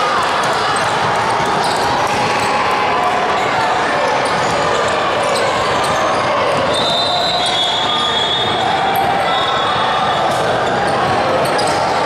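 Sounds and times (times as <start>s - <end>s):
sneakers squeaking: 0.7s - 2.6s, 4.2s - 12.0s.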